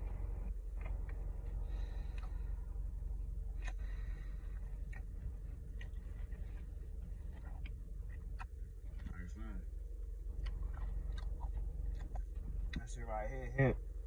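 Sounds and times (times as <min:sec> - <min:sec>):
man chewing food: 0:00.0 - 0:13.0
low hum: 0:00.0 - 0:14.0.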